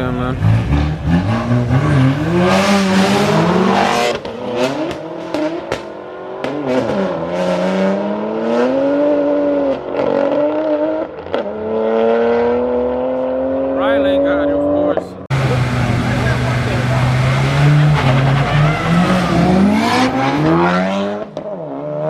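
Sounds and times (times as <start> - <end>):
car engines accelerating: 0.0 - 22.0.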